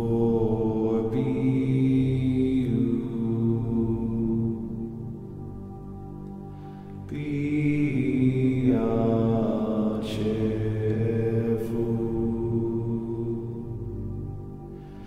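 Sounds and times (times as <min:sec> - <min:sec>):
droning chanted voices: 0:00.0 - 0:15.0.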